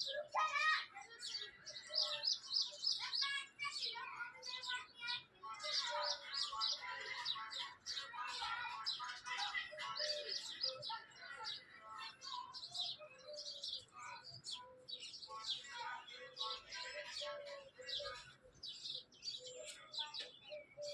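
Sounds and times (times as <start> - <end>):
birds chirping and calling: 0.0 - 20.9.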